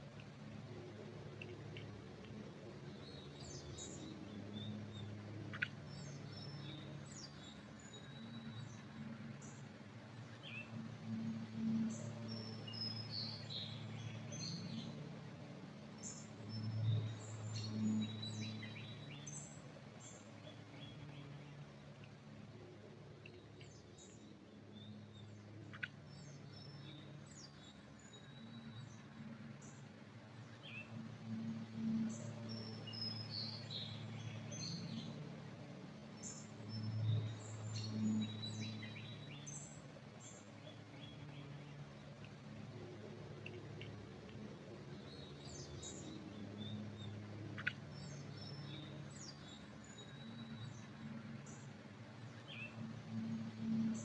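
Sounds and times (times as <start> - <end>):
low steady hum: 0.0 - 54.0
songbirds chirping faintly: 0.0 - 54.0.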